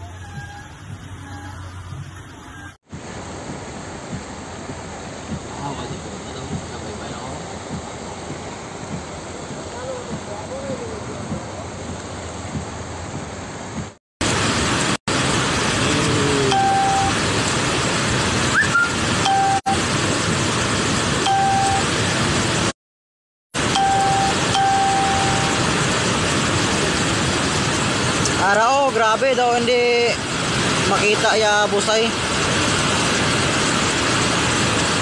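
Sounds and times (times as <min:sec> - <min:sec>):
floodwater roaring over rocks: 0:02.9 - 0:22.7, 0:23.6 - 0:35.0.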